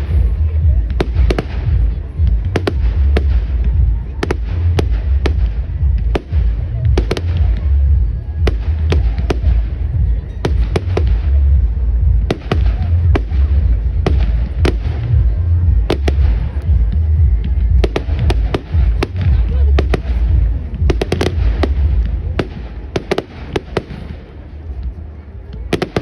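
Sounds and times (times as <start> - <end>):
low rumble: 0.0 - 25.8
fireworks bangs and cracks: 0.0 - 26.0.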